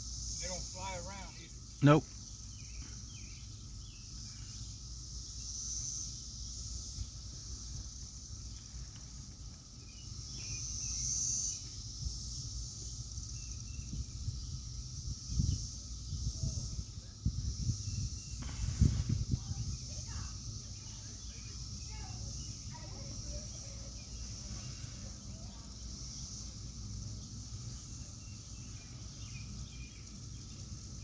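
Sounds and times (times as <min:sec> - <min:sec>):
cicadas buzzing: 0:00.0 - 0:31.0.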